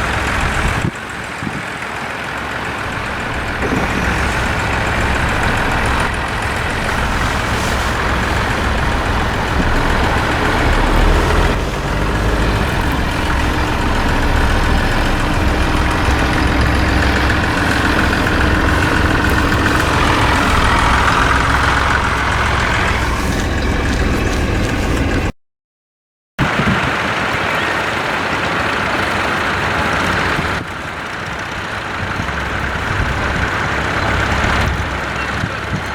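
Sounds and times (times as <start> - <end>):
tractor engine running: 0.0 - 25.3, 26.5 - 35.9.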